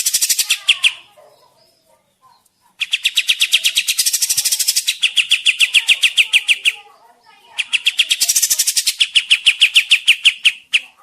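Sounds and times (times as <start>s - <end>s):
bird singing sharp chirps: 0.0s - 1.9s, 2.8s - 11.0s.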